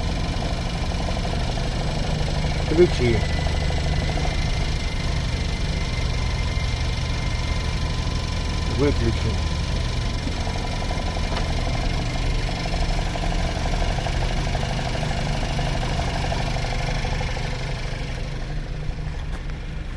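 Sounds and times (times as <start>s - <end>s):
car engine idling: 0.0s - 19.9s
fast rhythmic engine knock: 0.0s - 19.9s.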